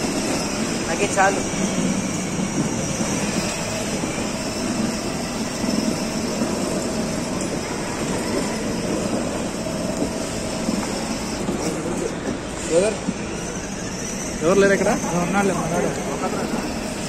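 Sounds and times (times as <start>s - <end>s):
indoor crowd hubbub: 0.0s - 17.0s
plastic wheels rolling on floor: 0.0s - 17.0s
toy car motors humming: 0.0s - 17.0s.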